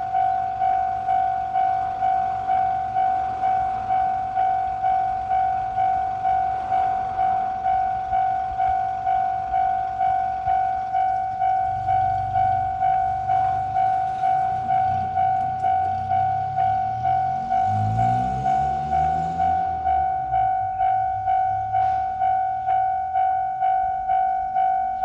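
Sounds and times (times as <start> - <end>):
level crossing bell clanging: 0.0 - 25.0.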